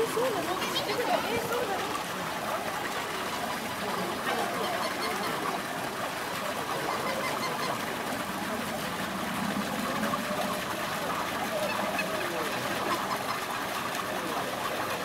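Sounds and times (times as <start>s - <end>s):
flamingos honking and chattering: 0.0s - 15.0s.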